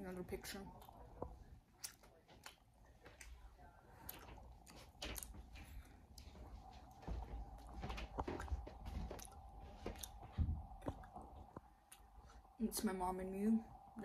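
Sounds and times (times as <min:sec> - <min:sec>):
faint steady hum: 0:00.0 - 0:14.0
chewing and mouth sounds: 0:00.7 - 0:12.4.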